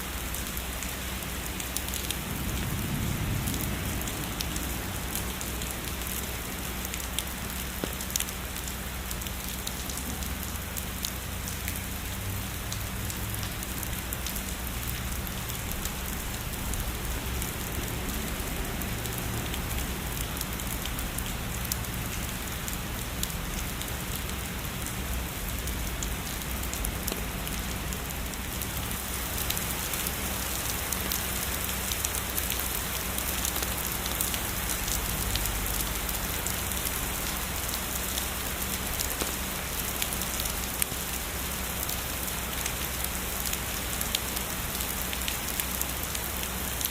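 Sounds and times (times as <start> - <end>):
heavy rainfall with ticking drops: 0.0 - 46.9.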